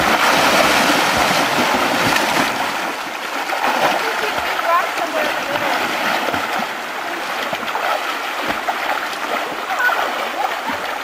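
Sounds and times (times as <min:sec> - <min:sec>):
river water flowing and lapping: 0:00.0 - 0:11.0
swimmer splashing: 0:00.0 - 0:11.0.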